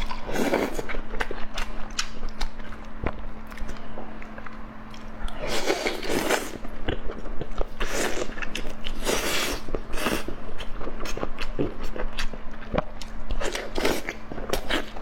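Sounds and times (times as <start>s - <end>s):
close chewing and biting: 0.0s - 15.0s.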